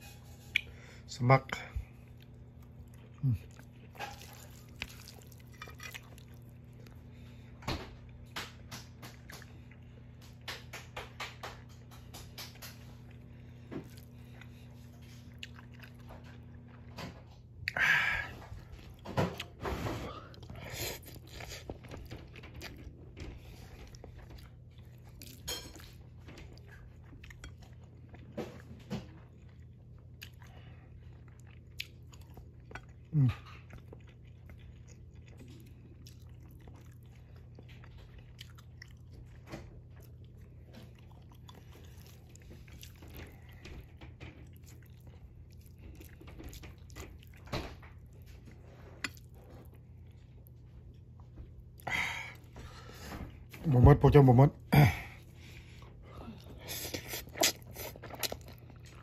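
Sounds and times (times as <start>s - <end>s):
person chewing noodles: 1.8s - 8.2s, 11.7s - 53.6s, 54.7s - 59.0s.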